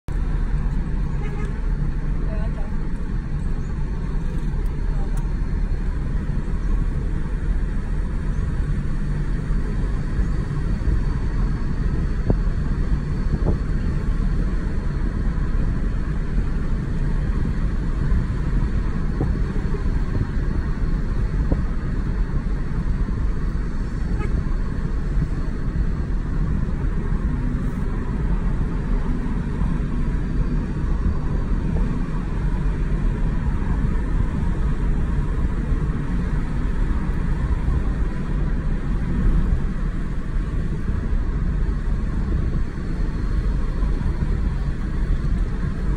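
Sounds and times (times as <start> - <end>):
car engine low rumble: 0.0 - 45.9.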